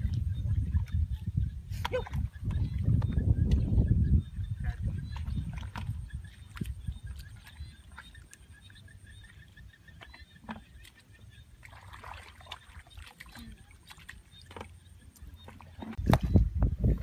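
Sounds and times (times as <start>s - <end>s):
muddy water sloshing: 0.0s - 16.5s.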